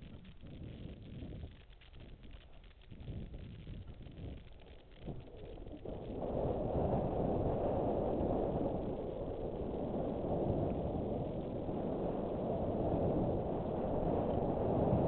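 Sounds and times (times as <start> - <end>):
wind rushing over microphone: 2.9 - 15.0.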